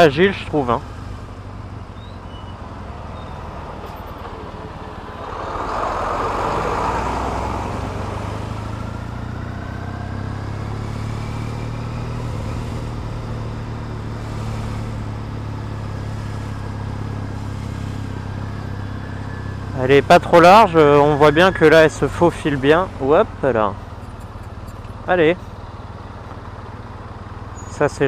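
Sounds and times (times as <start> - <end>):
motorcycle engine at low speed: 0.0 - 28.0
road and traffic noise: 0.0 - 28.0.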